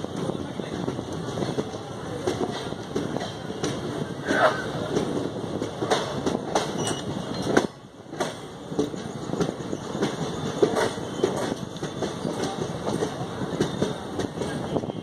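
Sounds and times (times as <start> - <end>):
wheels clacking over rails: 0.0 - 14.9
train rumble: 0.0 - 15.0.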